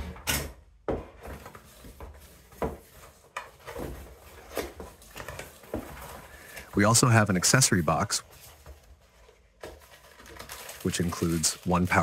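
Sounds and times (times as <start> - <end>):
cardboard scraping and rustling: 1.1 - 12.0.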